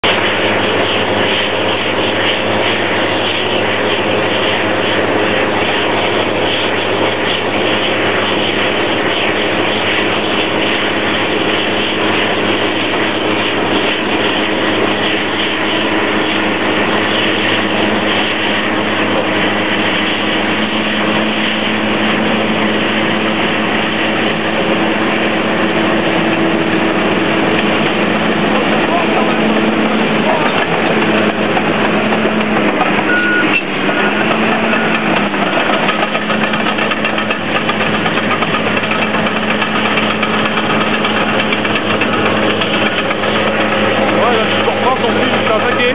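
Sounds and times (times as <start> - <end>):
bulldozer diesel engine droning: 0.0 - 45.9.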